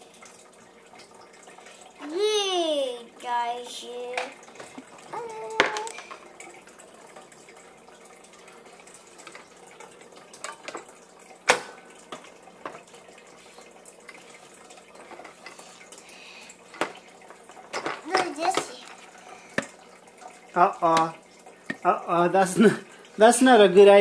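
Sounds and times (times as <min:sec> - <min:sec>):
faint water trickle: 0:00.0 - 0:24.0.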